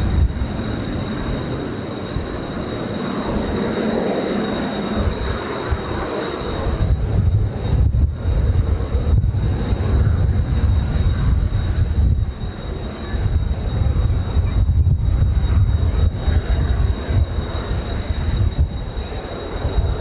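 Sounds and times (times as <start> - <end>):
jet engines flying: 0.0 - 20.0
wind gusting on microphone: 0.0 - 20.0.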